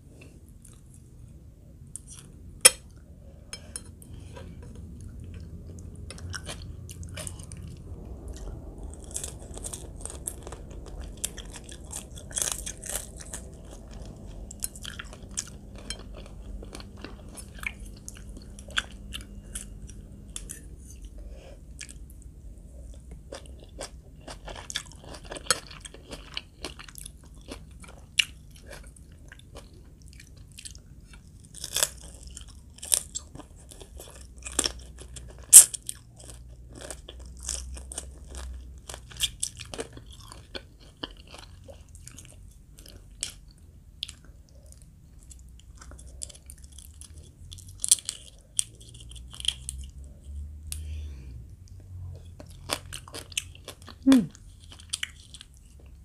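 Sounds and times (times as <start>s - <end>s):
person chewing: 1.9s - 51.0s, 51.7s - 56.0s
crackly crunches: 5.3s - 21.1s, 23.0s - 50.0s, 52.2s - 56.0s.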